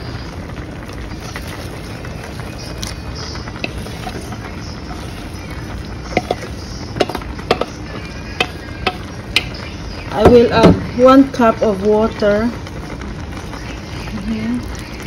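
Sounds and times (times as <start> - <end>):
pan sizzling hiss: 0.0 - 15.0.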